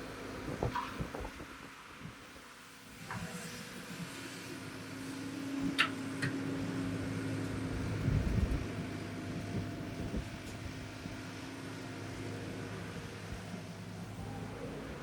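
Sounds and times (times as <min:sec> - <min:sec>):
excavator engine humming: 0:02.9 - 0:15.0.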